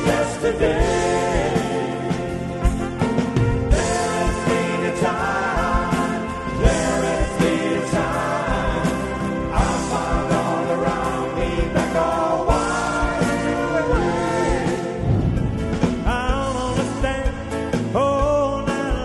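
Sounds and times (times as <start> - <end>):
voices singing together: 0.0 - 2.8, 3.7 - 17.0
pop band playing: 0.0 - 19.0
steady drum beat: 0.0 - 19.0.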